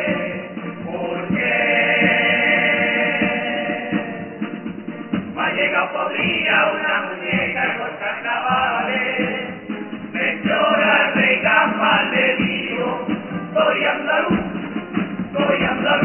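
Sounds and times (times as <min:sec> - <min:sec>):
men singing in chorus: 0:00.0 - 0:04.4, 0:05.4 - 0:16.0
regular beat: 0:00.0 - 0:16.0.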